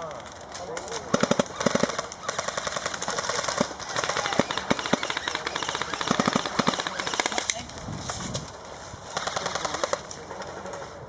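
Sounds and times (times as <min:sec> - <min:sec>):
airsoft rifles firing: 0:00.5 - 0:07.7, 0:09.1 - 0:10.8.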